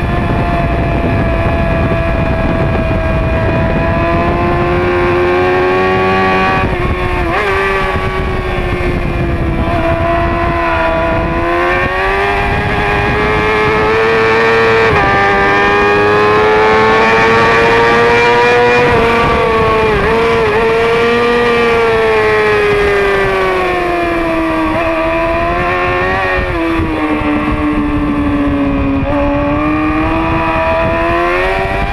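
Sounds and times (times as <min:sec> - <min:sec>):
motorcycle engine at high revs: 0:00.0 - 0:31.9
wind rush: 0:00.0 - 0:31.9.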